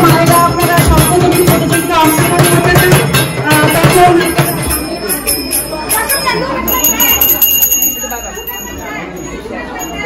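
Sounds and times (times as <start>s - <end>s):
busy percussion with jingles: 0.0s - 10.0s.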